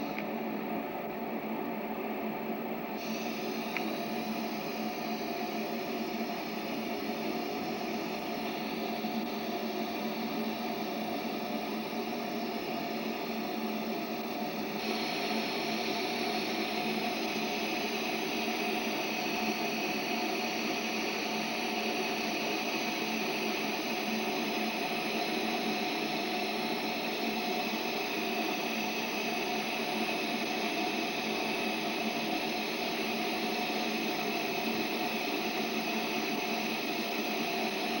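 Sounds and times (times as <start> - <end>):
gas torch flame hissing: 2.9 - 38.0.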